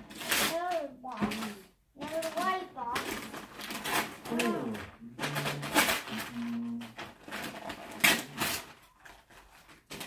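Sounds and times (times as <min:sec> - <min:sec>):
wrapping paper rustling and tearing: 0:00.0 - 0:10.0.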